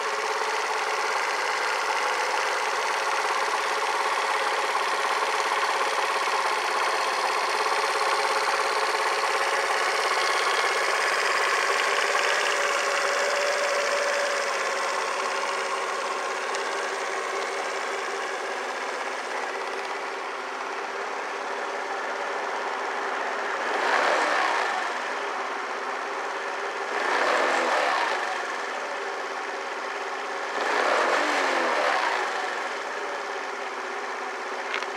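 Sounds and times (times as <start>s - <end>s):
scooter engine idling and revving: 0.0s - 34.9s.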